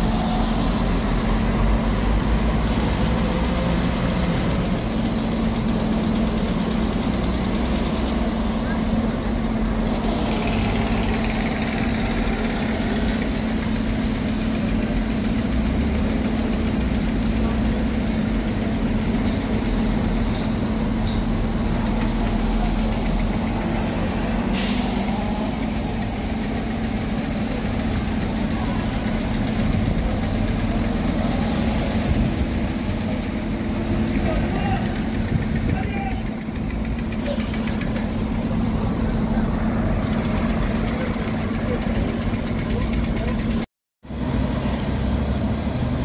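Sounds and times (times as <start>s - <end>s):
bus engine rumbling: 0.0s - 46.0s.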